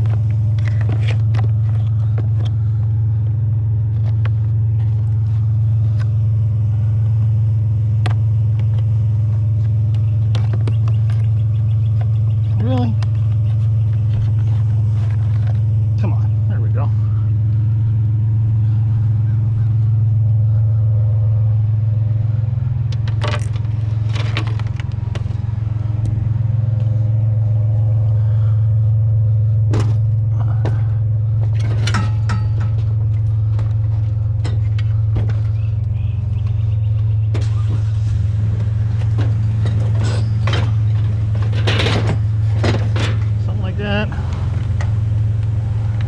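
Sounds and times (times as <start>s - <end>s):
truck engine humming: 0.0s - 46.0s.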